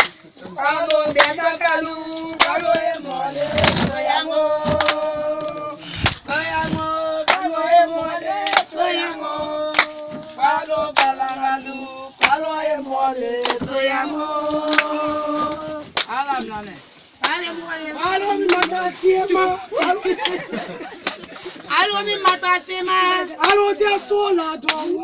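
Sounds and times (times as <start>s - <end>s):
hand clap beat: 0.0s - 16.5s, 17.2s - 25.0s
group singing: 0.0s - 25.0s.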